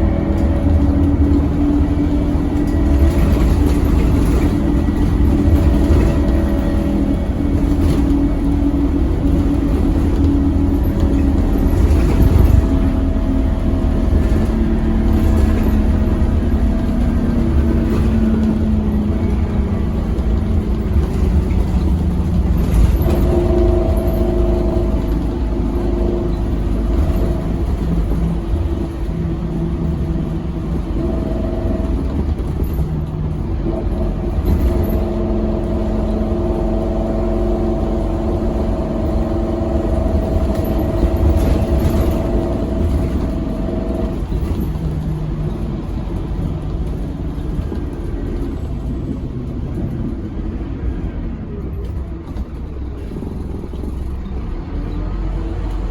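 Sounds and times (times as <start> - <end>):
bus diesel engine rumble: 0.0 - 55.9.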